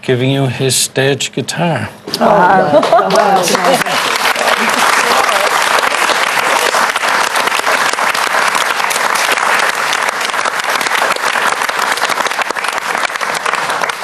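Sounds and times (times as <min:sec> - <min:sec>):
audience applause: 0:02.8 - 0:14.0.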